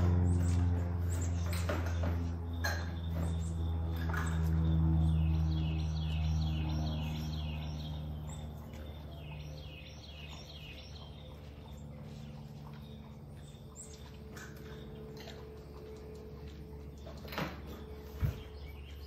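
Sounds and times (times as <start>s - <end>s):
songbird chirping: 0.0s - 19.0s
steady low hum: 0.0s - 19.0s.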